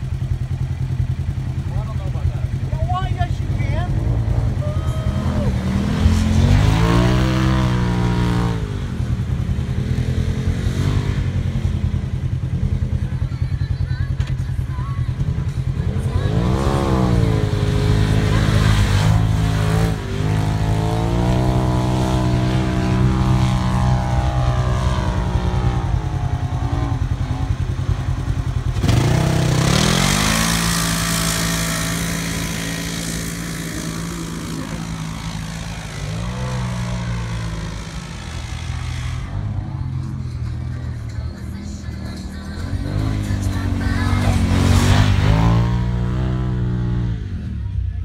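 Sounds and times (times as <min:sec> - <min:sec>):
utility vehicle engine revving: 0:00.0 - 0:13.2, 0:15.1 - 0:48.0.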